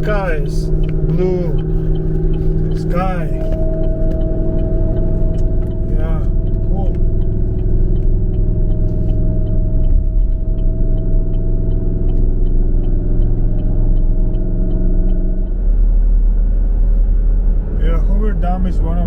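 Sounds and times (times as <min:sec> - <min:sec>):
faint even ticking: 0:00.0 - 0:16.3
car engine and road drone: 0:00.0 - 0:19.0
held engine tones: 0:00.0 - 0:19.0.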